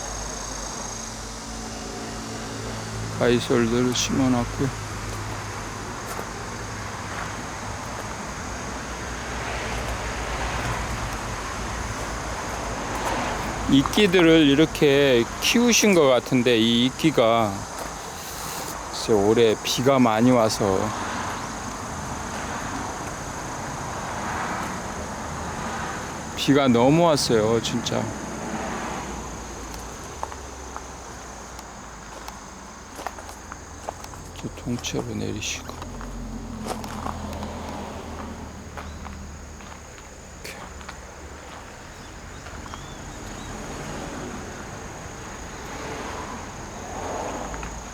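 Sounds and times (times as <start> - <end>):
insects droning: 0.0 - 47.9
road traffic rumble: 0.0 - 47.9
vehicle passing: 0.0 - 47.9.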